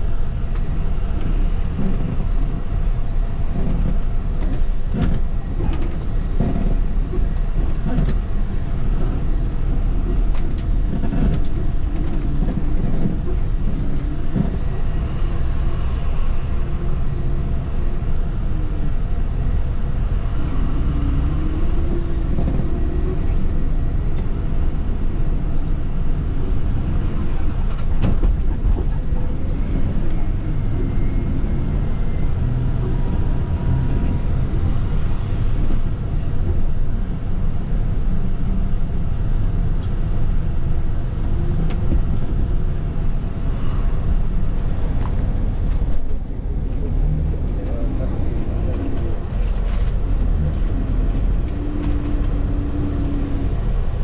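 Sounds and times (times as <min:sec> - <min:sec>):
bus rumbling: 0:00.0 - 0:54.0.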